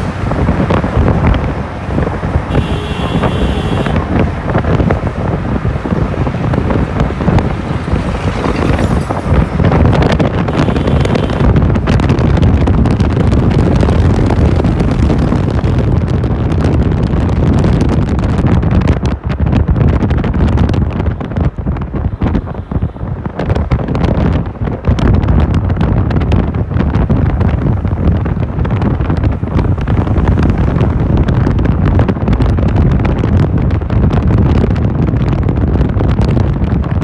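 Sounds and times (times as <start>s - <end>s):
road traffic: 0.0s - 37.0s
wind rumbling on microphone: 0.0s - 37.0s.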